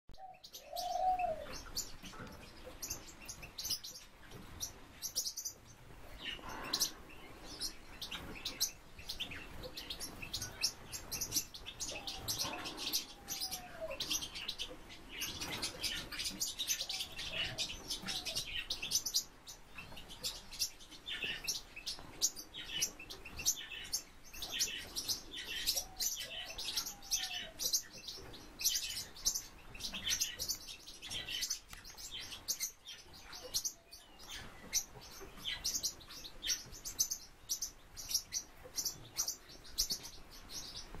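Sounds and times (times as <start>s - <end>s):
small birds chirping: 0.2s - 41.0s.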